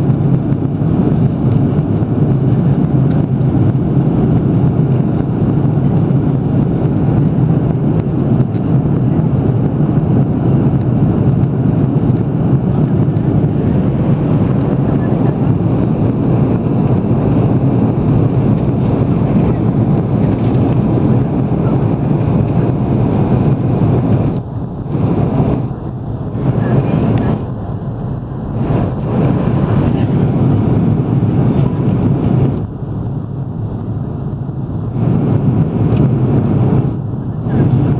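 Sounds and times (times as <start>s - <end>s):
aircraft cabin engine roar: 0.0s - 37.9s
rushing airflow: 0.0s - 37.9s.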